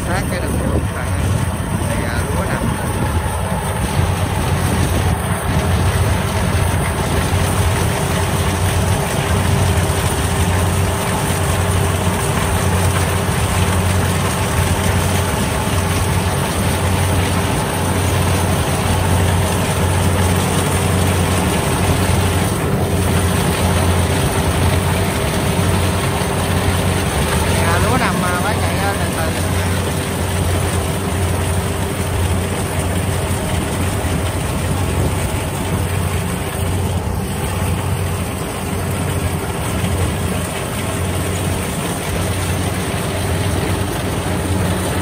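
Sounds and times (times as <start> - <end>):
combine harvester diesel drone: 0.0 - 45.0.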